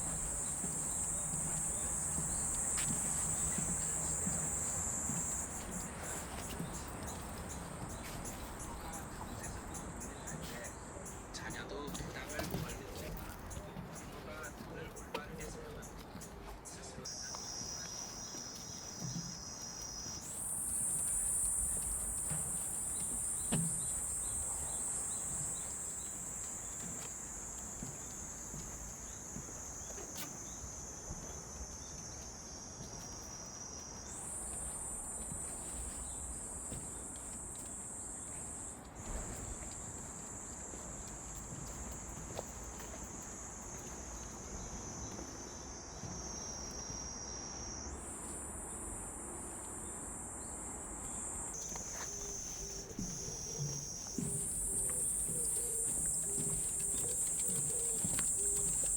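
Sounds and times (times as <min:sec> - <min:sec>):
cicadas droning: 0:00.0 - 0:58.9.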